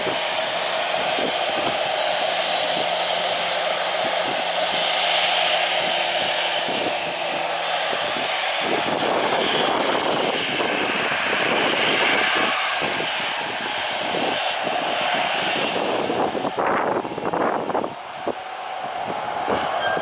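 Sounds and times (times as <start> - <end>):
jet engines roaring overhead: 0.0 - 20.0
wind buffeting microphone: 0.0 - 20.0.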